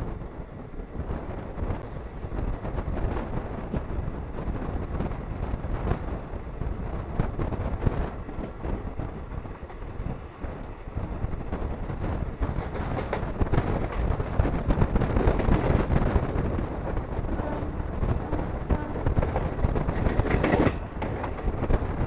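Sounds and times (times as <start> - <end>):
train coach rumbling: 0.0 - 22.0
train wheel clicks and clatter: 0.2 - 22.0.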